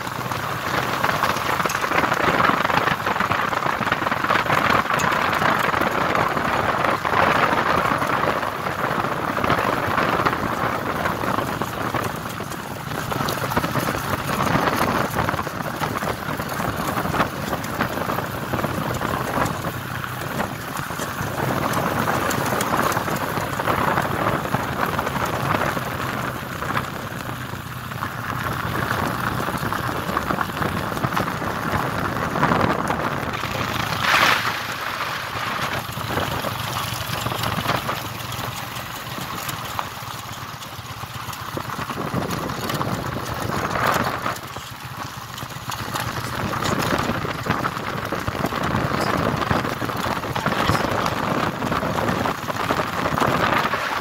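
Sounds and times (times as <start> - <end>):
motorcycle engine hum: 0.0 - 54.0
rushing tyre and air noise: 0.0 - 54.0.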